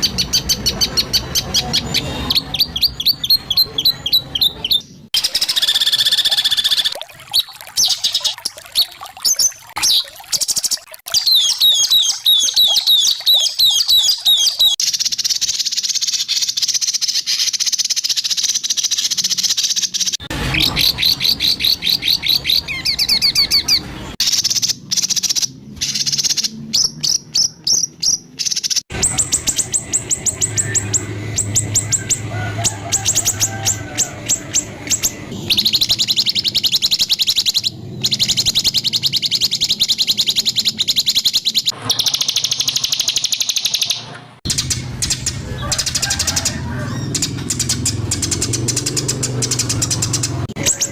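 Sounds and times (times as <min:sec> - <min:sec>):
bird singing rapid trills: 0:00.0 - 0:50.9.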